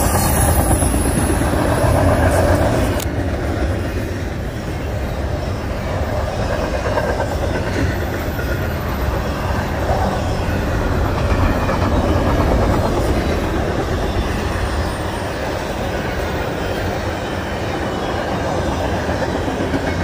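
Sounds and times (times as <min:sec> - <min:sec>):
steel wheels running on rails: 0:00.0 - 0:20.0.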